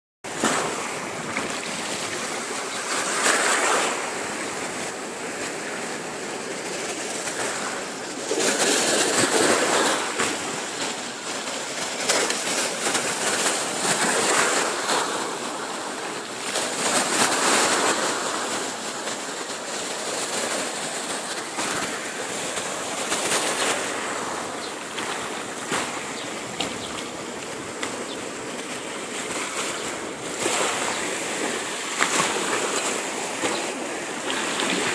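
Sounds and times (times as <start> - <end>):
ocean waves breaking: 0.3 - 34.9.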